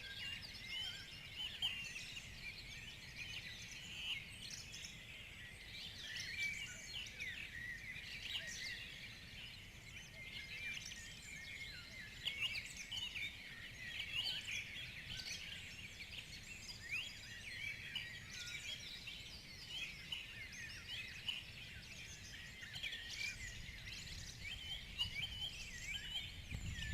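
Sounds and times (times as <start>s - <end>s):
birds singing: 0.0s - 26.9s.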